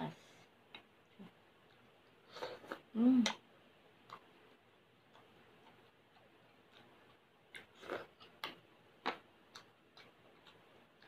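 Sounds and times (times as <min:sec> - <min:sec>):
person chewing food: 0:00.7 - 0:02.9, 0:04.0 - 0:11.0.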